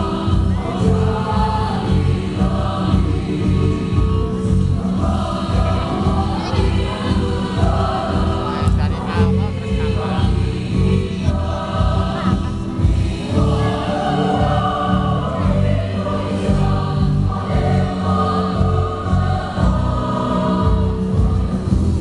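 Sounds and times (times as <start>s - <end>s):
women's choir singing: 0.0s - 22.0s.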